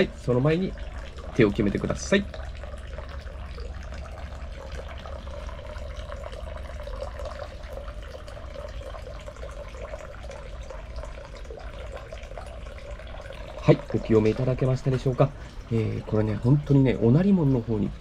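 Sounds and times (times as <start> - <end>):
water running into stone basin: 0.0 - 18.0.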